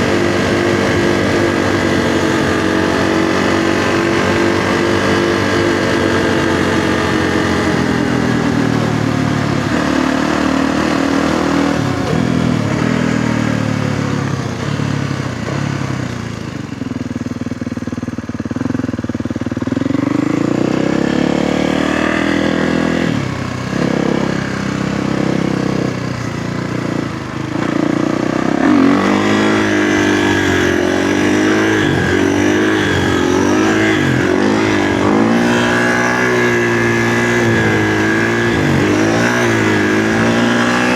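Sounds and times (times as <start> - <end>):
dirt bike engine revving: 0.0 - 16.7, 18.6 - 40.9.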